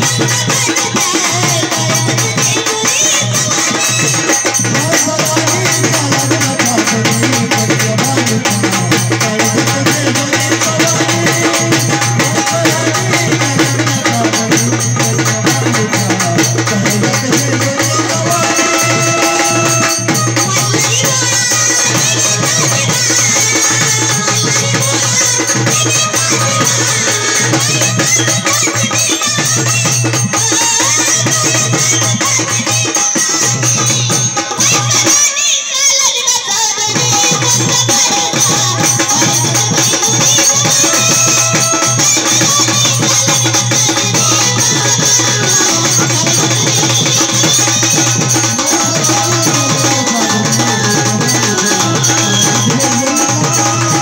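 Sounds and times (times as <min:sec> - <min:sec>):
fast dense drumming: 0:00.0 - 0:35.1, 0:36.9 - 0:54.0.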